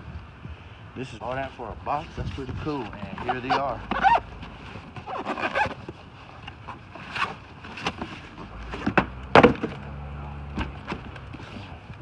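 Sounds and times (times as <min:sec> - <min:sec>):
cardboard packing rustling: 0:01.3 - 0:12.0.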